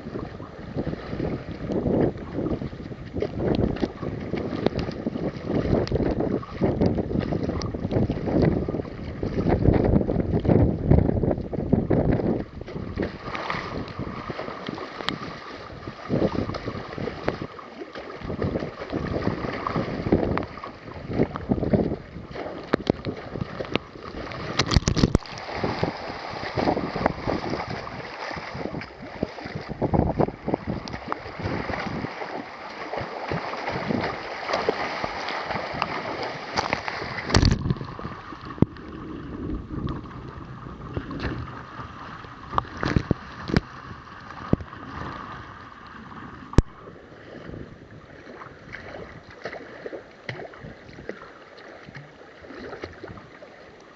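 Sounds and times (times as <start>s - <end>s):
wind buffeting microphone: 0.0s - 49.5s
water sloshing around kayak: 0.0s - 53.9s.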